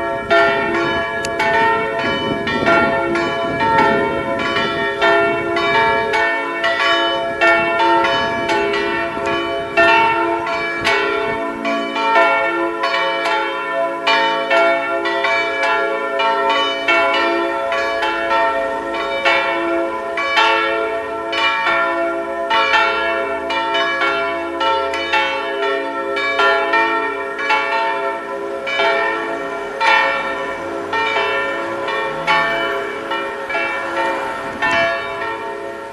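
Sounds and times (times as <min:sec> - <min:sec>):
church bells ringing in a peal: 0:00.0 - 0:35.9.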